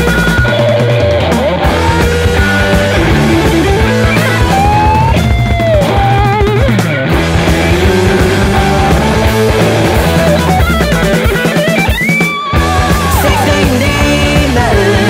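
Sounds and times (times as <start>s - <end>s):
bass: 0.0s - 15.0s
drum kit: 0.0s - 15.0s
electric lead guitar: 0.0s - 15.0s.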